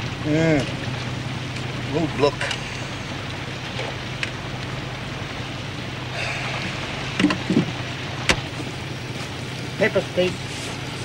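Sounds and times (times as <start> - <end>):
car engine droning: 0.0 - 11.0
rain: 0.0 - 11.0
wet road hiss: 0.0 - 11.0.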